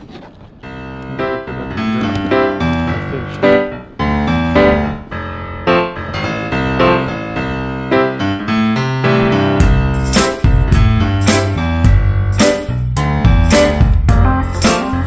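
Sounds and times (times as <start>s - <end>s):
piano notes ringing: 0.6s - 15.0s.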